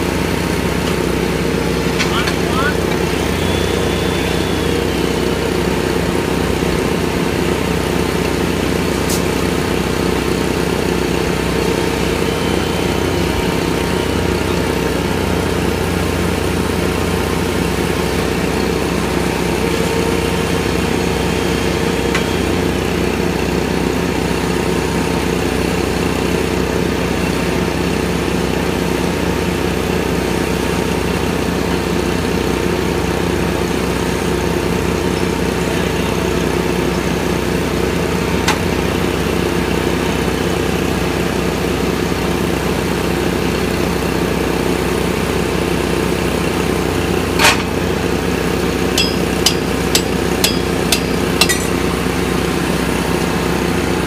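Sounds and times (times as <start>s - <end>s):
machine engine running steadily: 0.0s - 54.0s.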